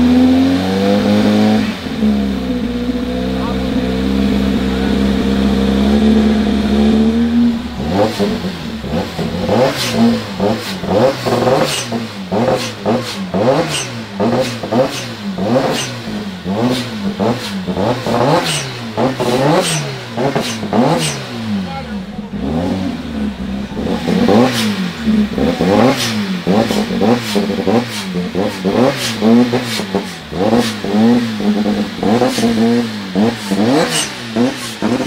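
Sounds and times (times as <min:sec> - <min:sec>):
car engine revving: 0:00.0 - 0:35.0
exhaust cracks: 0:01.0 - 0:35.0.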